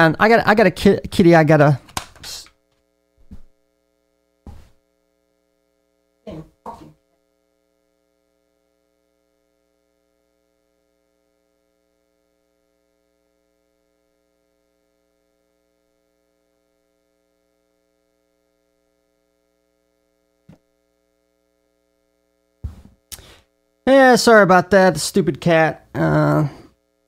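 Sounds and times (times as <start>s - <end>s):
faint electrical hum: 0.0s - 27.0s.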